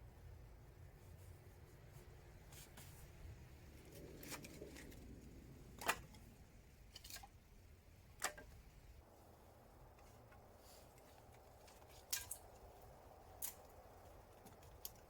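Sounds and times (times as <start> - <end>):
wood fire crackling: 2.3 - 15.0.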